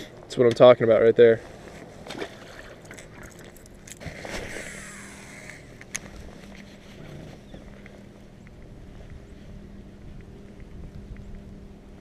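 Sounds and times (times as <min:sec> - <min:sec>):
boat motor humming: 0:01.5 - 0:12.0.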